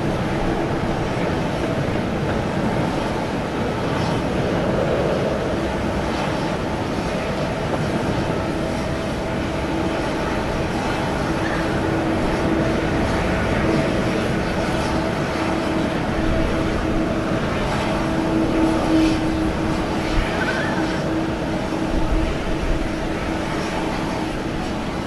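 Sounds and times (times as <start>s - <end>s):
constant low hum: 0.0s - 25.0s
jet aircraft noise: 0.0s - 25.0s.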